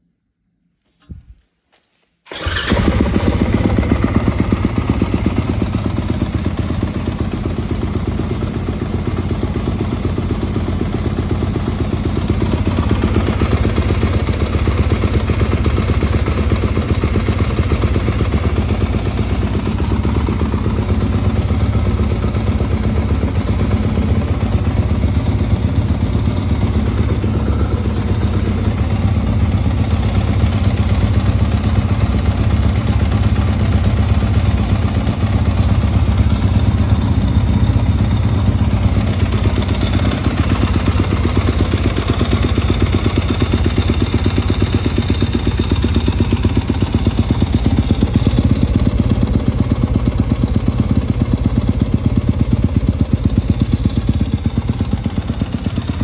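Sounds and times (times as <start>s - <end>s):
motorcycle engine idling: 2.3s - 56.0s.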